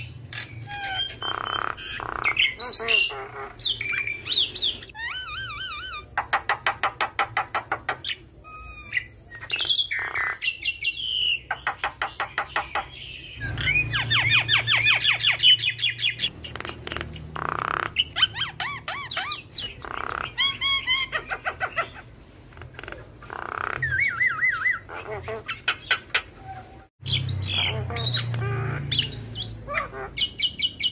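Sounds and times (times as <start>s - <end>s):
myna bird singing: 0.0s - 30.9s.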